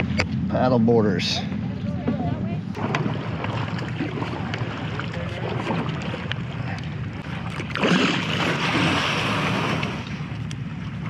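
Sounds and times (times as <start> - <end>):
paddle stroke water wash: 0.0 - 11.0
water sloshing against canoe hull: 2.0 - 11.0.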